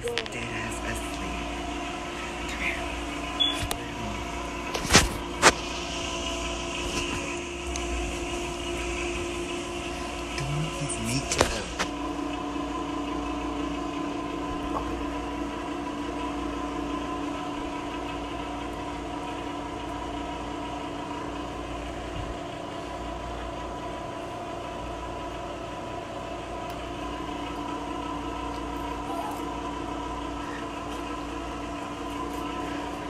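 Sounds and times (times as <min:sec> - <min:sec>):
machine humming: 0:00.0 - 0:33.0.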